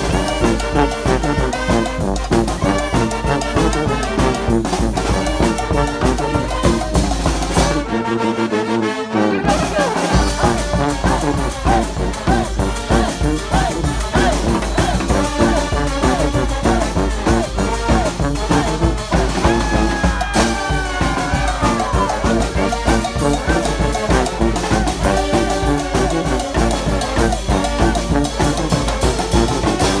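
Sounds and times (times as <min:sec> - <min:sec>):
brass band playing upbeat tune: 0:00.0 - 0:30.0.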